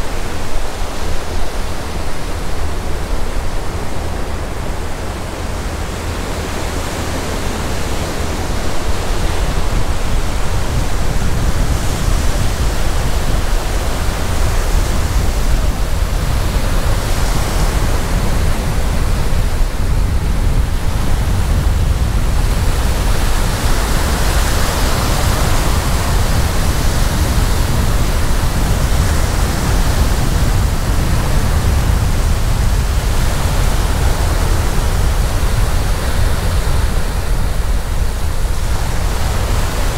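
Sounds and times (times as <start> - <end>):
waves washing on beach: 0.0 - 39.9
wind on microphone: 0.0 - 39.9.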